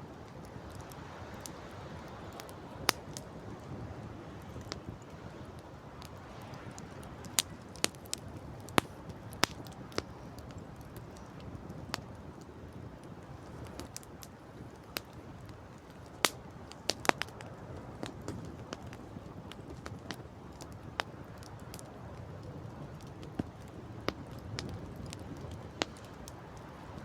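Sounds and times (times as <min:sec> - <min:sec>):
campfire crackling: 0:00.0 - 0:27.0
sea: 0:00.0 - 0:27.0
wind: 0:00.0 - 0:27.0.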